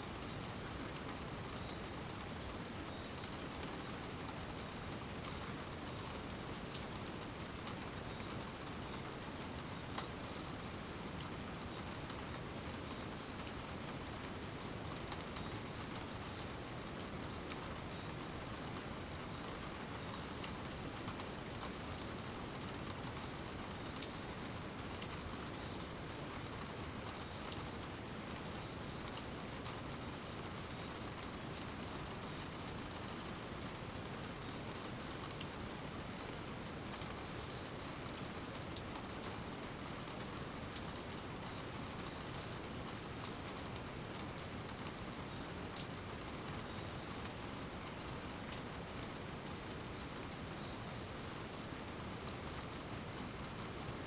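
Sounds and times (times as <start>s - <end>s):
steady rainfall hiss: 0.0s - 54.0s.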